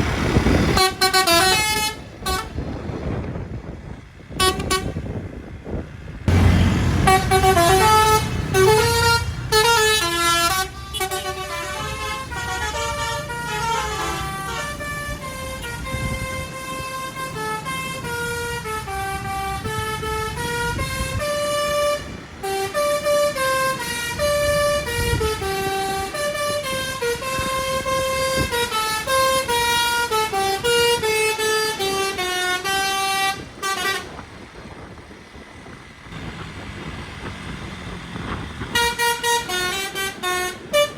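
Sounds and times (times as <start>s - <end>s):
musical bus horn melody: 0.4s - 3.2s, 4.3s - 5.2s, 6.3s - 35.4s, 38.2s - 40.9s.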